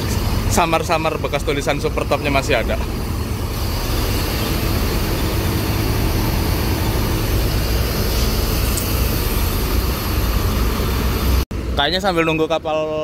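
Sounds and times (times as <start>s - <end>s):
diesel coach engines idling: 0.0s - 13.0s.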